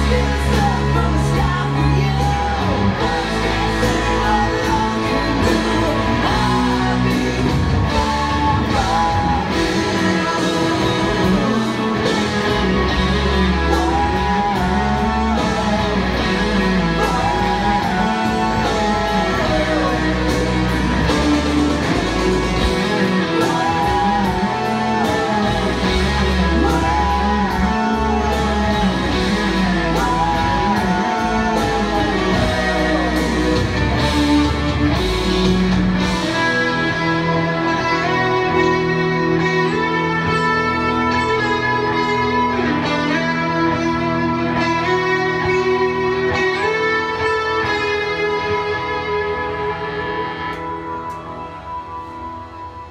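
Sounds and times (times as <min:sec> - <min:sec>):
electric guitar lead: 0:00.0 - 0:52.9
rock backing of bass and drums: 0:00.0 - 0:52.9.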